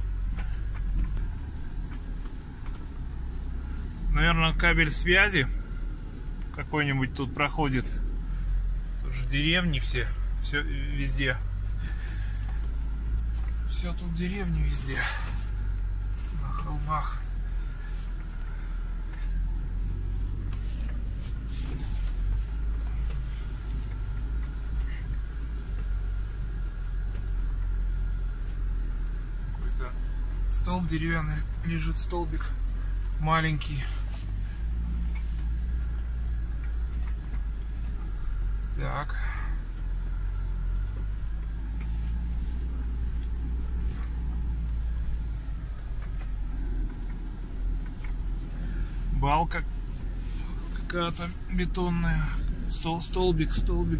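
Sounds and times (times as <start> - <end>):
car engine droning: 0.0 - 53.9.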